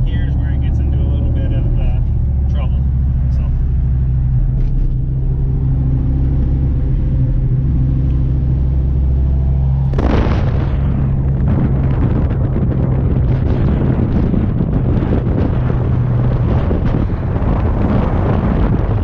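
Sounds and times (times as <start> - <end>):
car engine droning: 0.0 - 19.0
wind buffeting microphone: 0.0 - 19.0.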